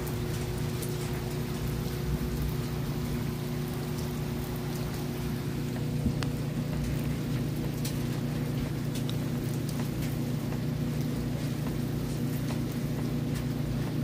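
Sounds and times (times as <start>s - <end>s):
steady low hum: 0.0s - 14.0s
steady rain falling: 0.0s - 14.0s.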